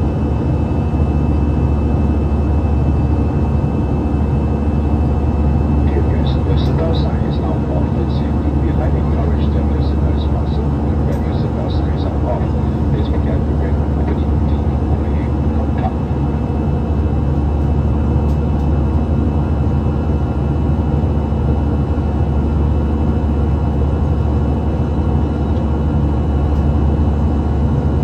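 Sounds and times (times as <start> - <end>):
faint steady whine: 0.0 - 28.0
jet engine cabin rumble: 0.0 - 28.0.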